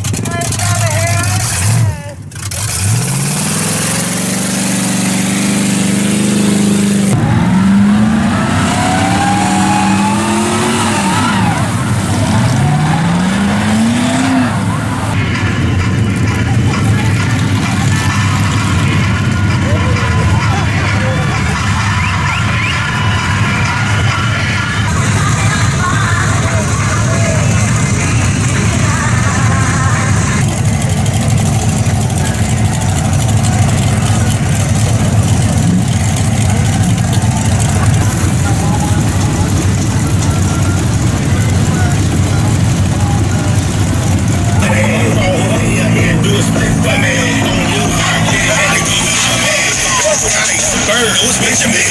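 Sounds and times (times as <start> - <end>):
vehicle engine revving: 0.0 - 51.9.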